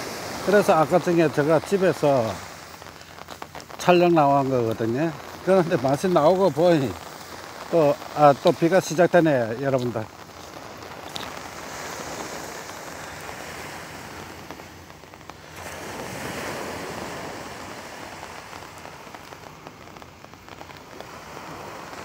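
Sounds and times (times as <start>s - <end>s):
rain pattering on umbrella: 0.0s - 22.0s
small waves washing on sand: 0.0s - 22.0s.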